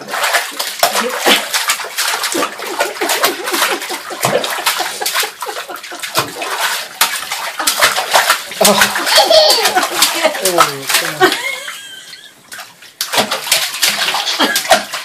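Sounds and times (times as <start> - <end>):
bathwater splashing: 0.0 - 15.0.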